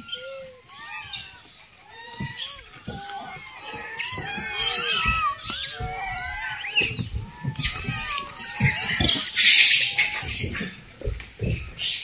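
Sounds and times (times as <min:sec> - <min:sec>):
monkeys squealing: 0:00.0 - 0:12.0.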